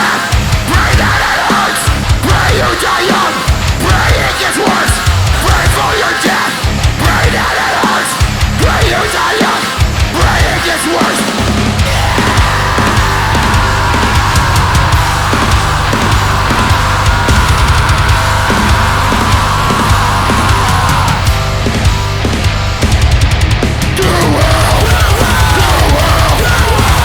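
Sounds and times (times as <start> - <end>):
heavy metal band playing: 0.0 - 27.0.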